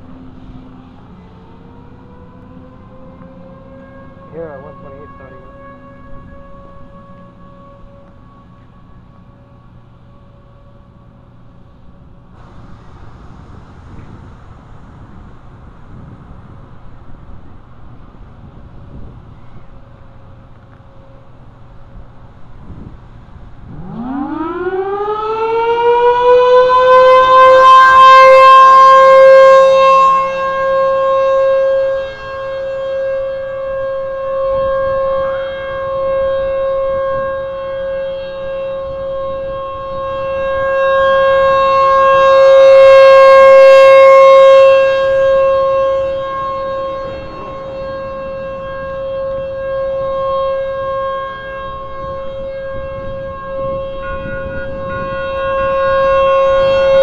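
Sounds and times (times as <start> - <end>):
civil defense siren: 0.0 - 57.0.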